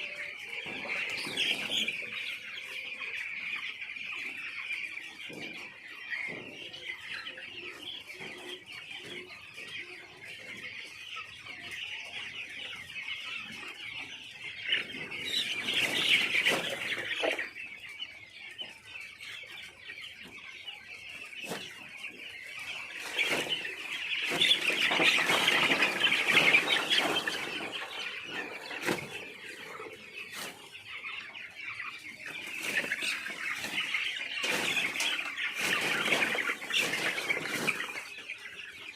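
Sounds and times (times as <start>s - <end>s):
chicks peeping in chorus: 0.0s - 38.9s.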